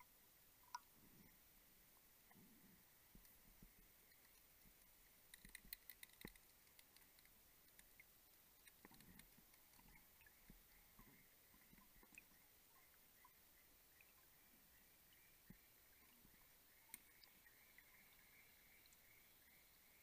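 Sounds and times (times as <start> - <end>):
faint underwater clicks: 0.0 - 20.0.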